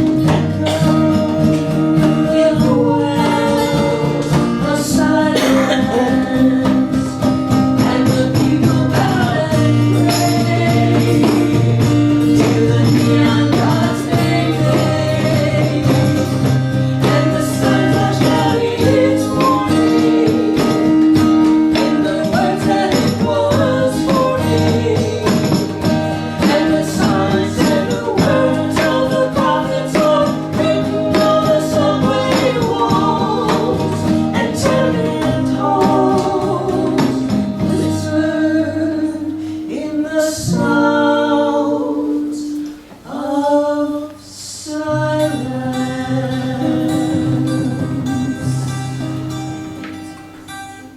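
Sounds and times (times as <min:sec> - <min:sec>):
instrumental accompaniment: 0:00.0 - 0:43.1, 0:44.9 - 0:50.9
person singing: 0:00.0 - 0:49.3.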